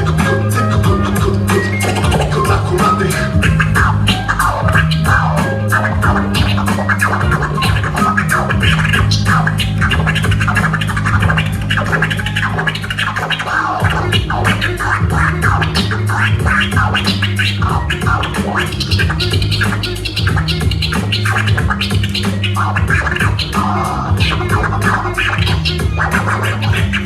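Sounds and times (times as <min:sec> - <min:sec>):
turntable scratching: 0:00.0 - 0:27.0.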